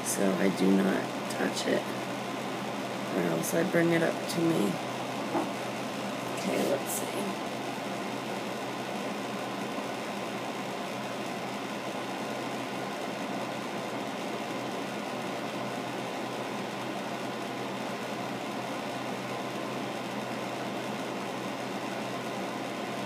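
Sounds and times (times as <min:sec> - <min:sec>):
low constant hum: 0:00.0 - 0:18.9.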